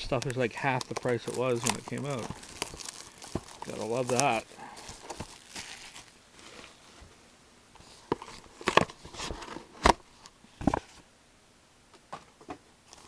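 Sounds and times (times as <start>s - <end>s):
faint rustling of wrapping: 0.0s - 11.1s.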